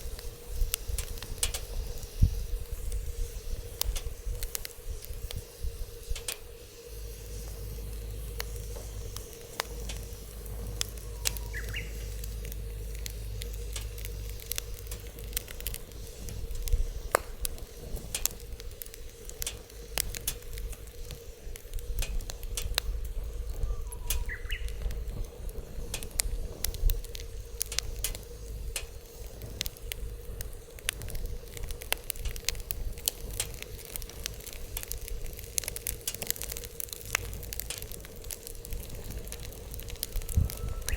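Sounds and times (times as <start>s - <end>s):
wood fire crackling and popping: 0.0s - 40.9s
low rumble: 6.9s - 40.9s.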